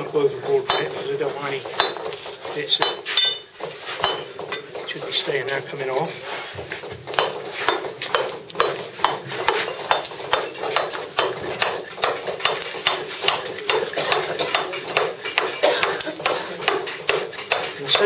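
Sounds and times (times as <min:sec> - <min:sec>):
mallet striking chisel on stone: 0:00.4 - 0:05.0, 0:07.0 - 0:18.0.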